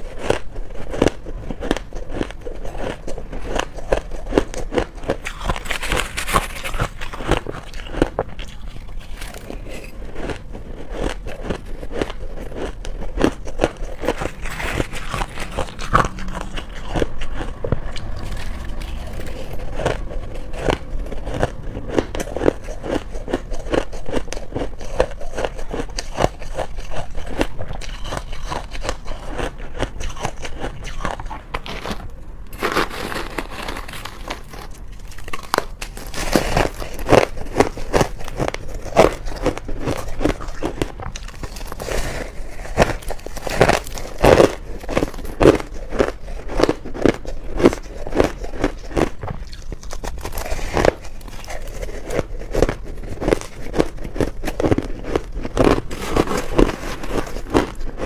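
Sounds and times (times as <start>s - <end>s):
chewing crunchy ice: 0.0s - 58.0s.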